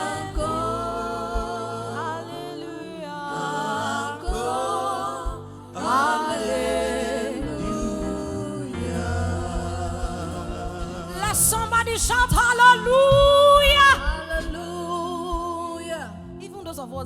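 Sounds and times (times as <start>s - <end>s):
gospel singing: 0.0s - 16.4s
low sustained bass notes: 0.0s - 16.6s.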